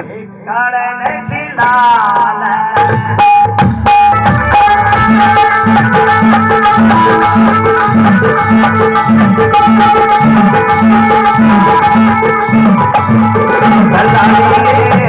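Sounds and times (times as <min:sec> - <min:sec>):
hand drum beating folk rhythm: 0:01.1 - 0:15.0
harmonium melody: 0:01.6 - 0:15.0.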